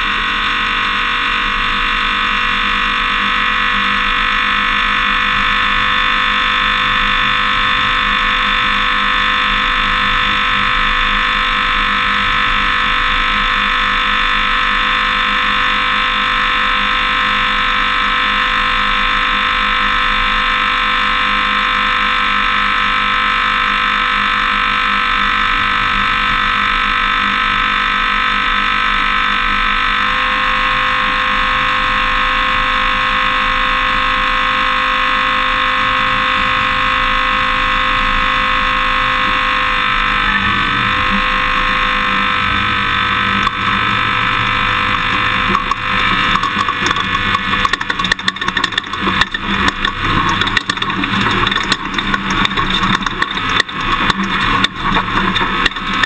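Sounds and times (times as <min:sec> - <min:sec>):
engine and drivetrain whine: 0:00.0 - 0:56.0.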